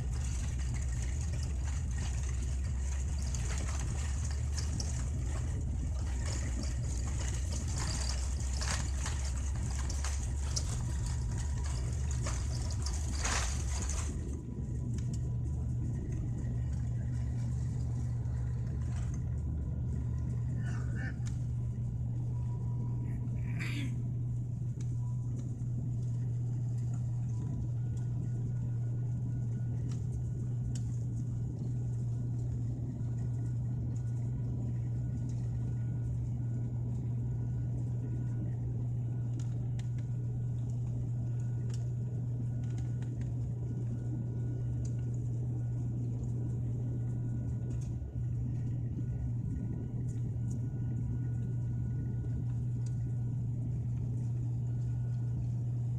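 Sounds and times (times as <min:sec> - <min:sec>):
airliner engines drone: 0:00.0 - 0:55.9.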